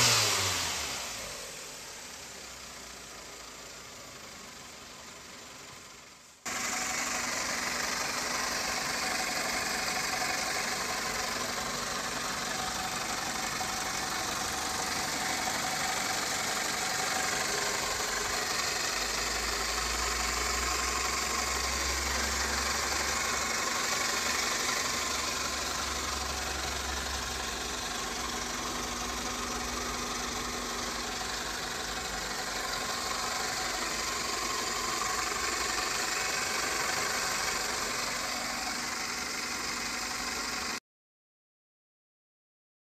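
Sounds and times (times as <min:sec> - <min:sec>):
car engine idling: 0:00.0 - 0:40.8.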